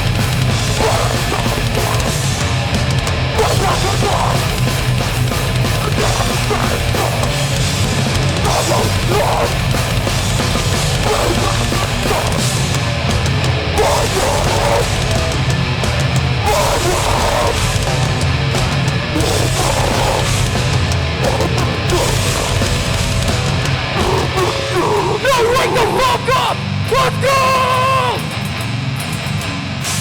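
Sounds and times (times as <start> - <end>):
shouted vocals: 0.0 - 13.0, 13.6 - 15.5, 16.3 - 18.2, 19.0 - 22.9, 23.8 - 28.4
loud hardcore band playing: 0.0 - 30.0.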